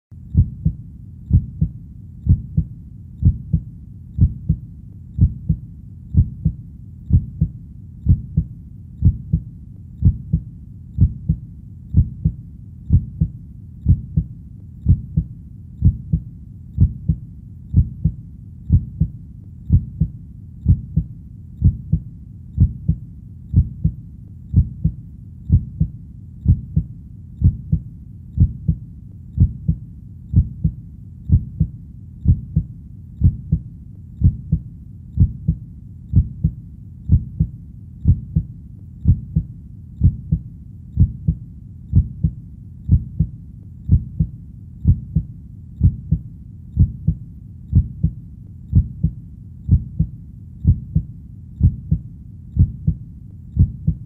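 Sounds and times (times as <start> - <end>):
heartbeat lub-dub: 0.2 - 54.0.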